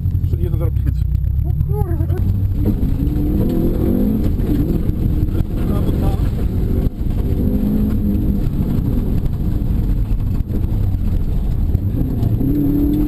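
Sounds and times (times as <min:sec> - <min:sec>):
rally car engine under load: 0:00.0 - 0:13.0
tyre noise on dirt road: 0:00.0 - 0:13.0.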